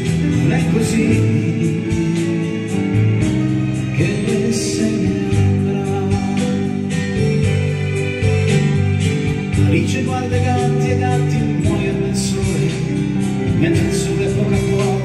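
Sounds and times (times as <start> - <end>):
digital piano chords over a beat: 0.0 - 15.0.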